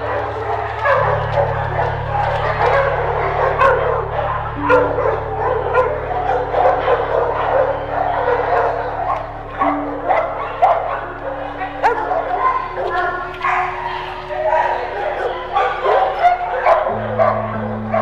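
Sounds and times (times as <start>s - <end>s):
dogs barking and yipping: 0.0s - 18.0s
steady low hum: 0.0s - 18.0s.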